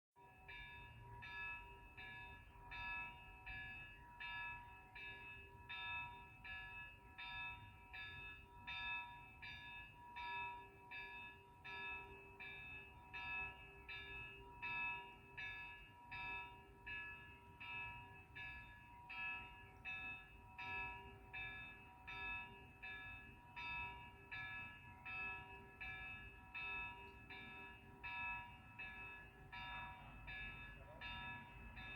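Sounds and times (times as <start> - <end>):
church bell ringing: 0.2 - 31.9.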